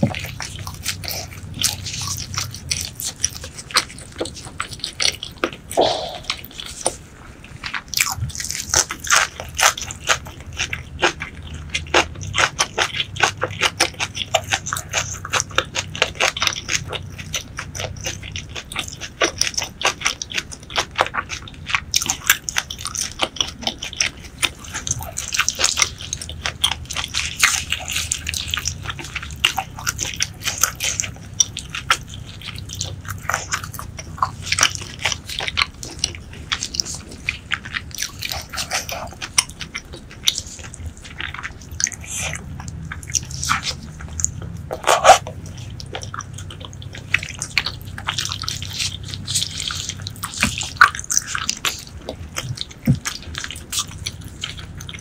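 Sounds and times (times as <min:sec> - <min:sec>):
chewing smacks and clicks: 0:00.0 - 0:55.0.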